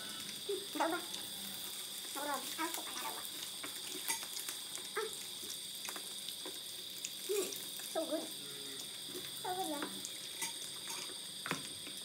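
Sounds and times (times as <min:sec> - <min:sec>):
sausages sizzling on a grill pan: 0:00.0 - 0:12.0.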